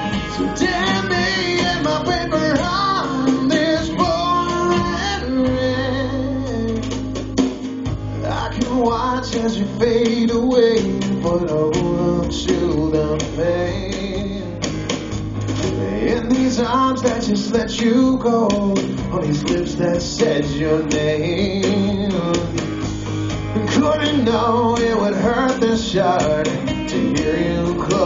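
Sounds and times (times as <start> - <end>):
man singing: 0.0 - 7.1, 8.2 - 14.7, 15.7 - 22.8, 23.5 - 28.0
acoustic guitars strumming: 0.0 - 28.0
electric bass guitar: 0.0 - 28.0.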